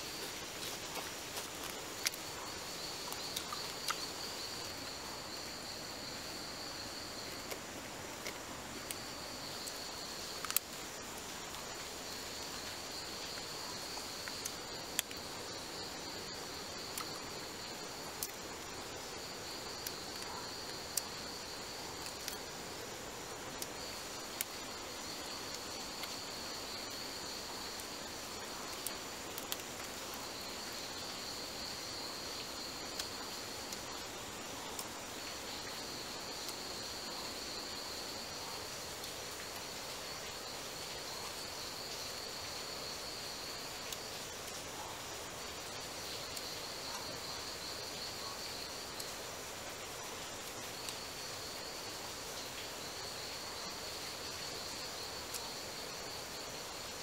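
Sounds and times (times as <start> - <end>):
insect trill: 0.0 - 57.0.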